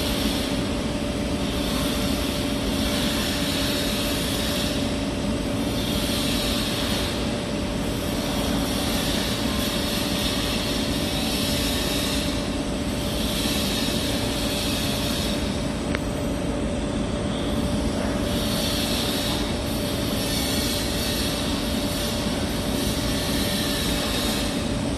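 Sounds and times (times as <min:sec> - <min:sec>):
welding arc buzzing and hissing: 0:00.0 - 0:24.9.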